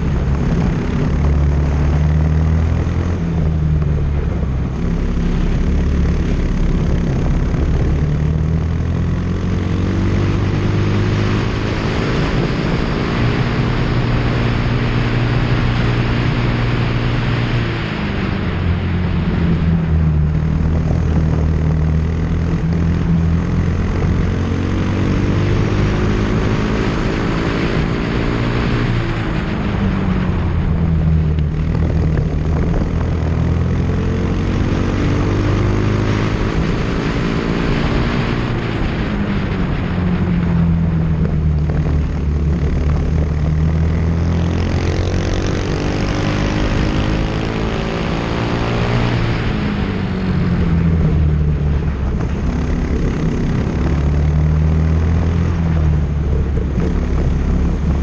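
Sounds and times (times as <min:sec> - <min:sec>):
wind rushing over car: 0:00.0 - 0:58.0.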